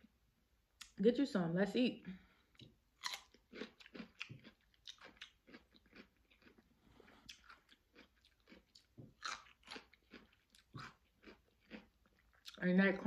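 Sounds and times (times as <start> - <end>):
cucumber crunching while chewed: 2.5 - 13.0.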